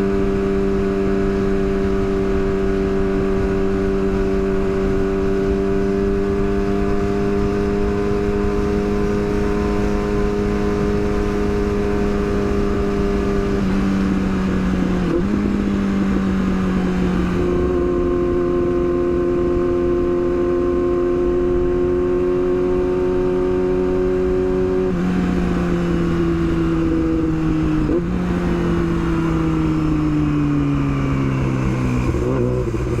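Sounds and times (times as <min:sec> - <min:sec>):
motorcycle engine at high revs: 0:00.0 - 0:33.0
wind rumble: 0:00.0 - 0:33.0.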